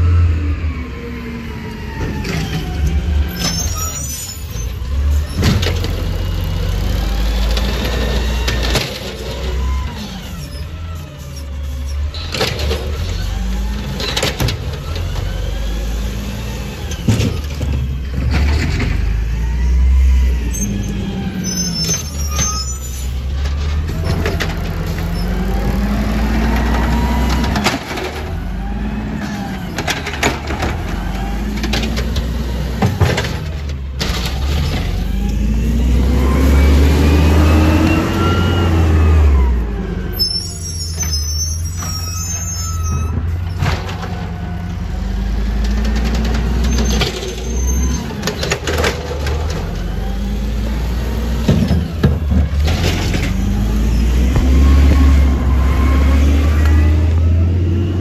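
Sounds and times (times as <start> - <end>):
diesel engine revving: 0.0 - 42.5, 43.1 - 58.0.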